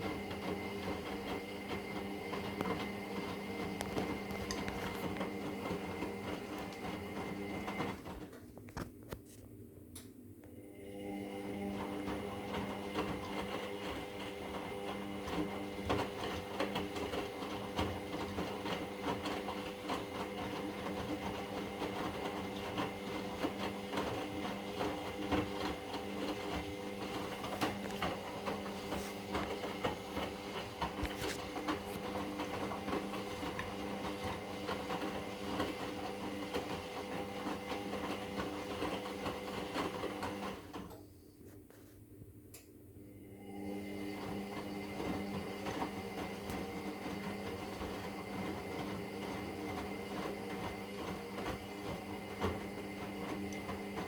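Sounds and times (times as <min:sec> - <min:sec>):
washing machine motor humming: 0:00.0 - 0:08.5, 0:10.5 - 0:41.1, 0:43.0 - 0:54.0.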